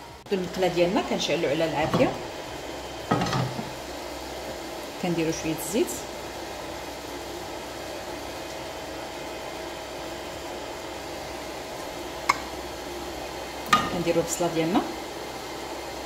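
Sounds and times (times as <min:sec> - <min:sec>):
fan-like hum with hiss: 0:00.0 - 0:16.0.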